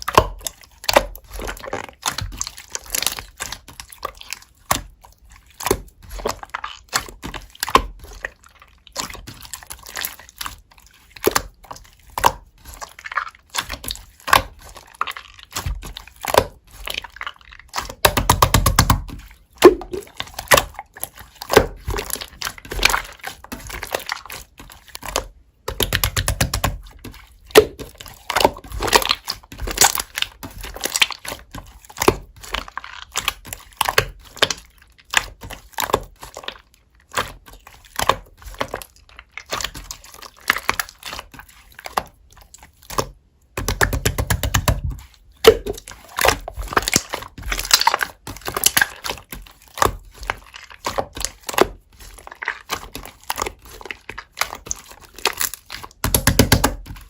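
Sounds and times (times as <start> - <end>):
rapid popping of slime: 0.0 - 57.0
slime squishing with sticky clicks: 0.0 - 57.0.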